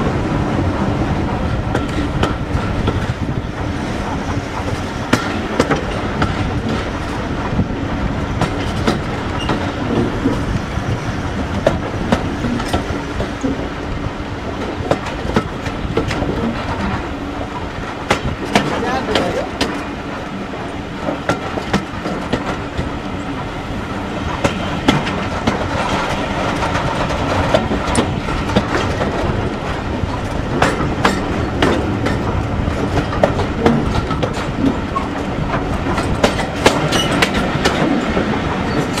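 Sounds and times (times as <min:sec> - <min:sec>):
train wheels rumbling on rail: 0:00.0 - 0:39.0
wheels clicking over rail joints: 0:01.2 - 0:39.0.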